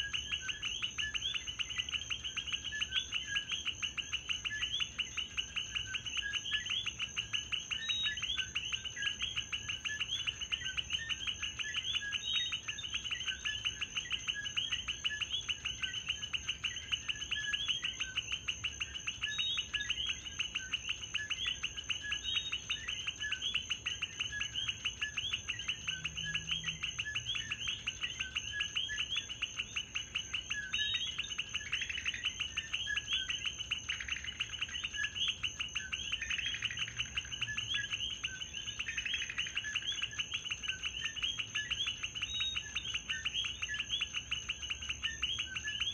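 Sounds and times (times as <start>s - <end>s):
frogs chirping: 0.0s - 45.9s.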